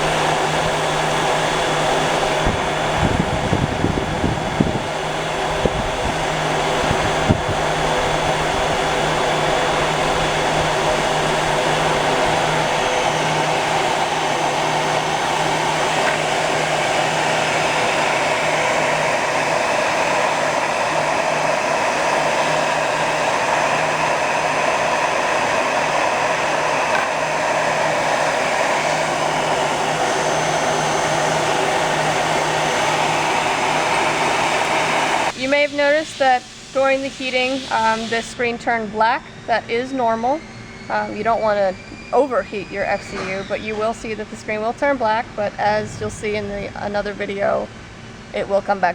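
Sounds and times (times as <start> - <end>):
heat gun blowing air: 0.0 - 44.2.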